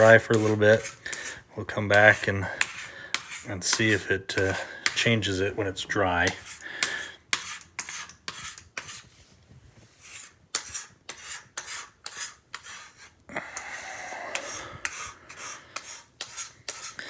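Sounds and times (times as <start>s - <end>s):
hand scraper scraping floor: 0.0s - 9.1s, 9.8s - 17.0s.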